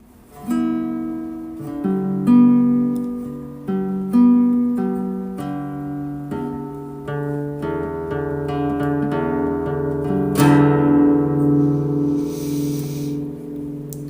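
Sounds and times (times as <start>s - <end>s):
acoustic guitar chords ringing: 0.0s - 14.0s.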